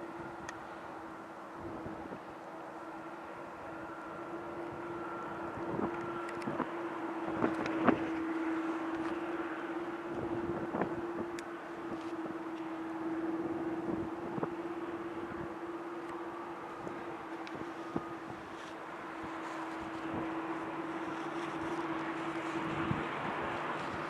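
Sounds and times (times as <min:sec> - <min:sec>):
jet engines idling whine: 0:00.0 - 0:24.0.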